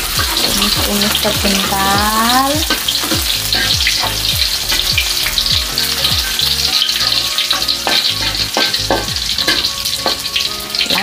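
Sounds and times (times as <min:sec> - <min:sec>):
garlic sizzling in hot oil: 0:00.0 - 0:11.0
metal spatula scraping a wok: 0:00.0 - 0:11.0.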